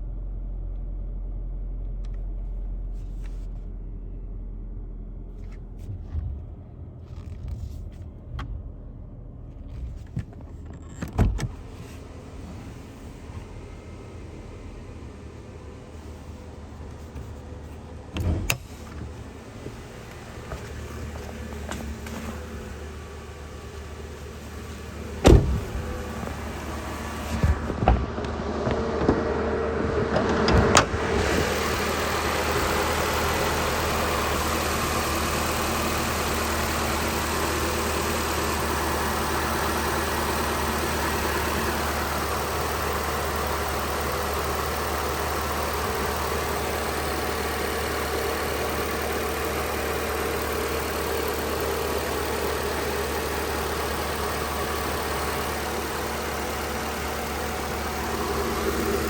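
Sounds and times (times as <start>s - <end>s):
car engine starting and idling: 0.0s - 59.0s.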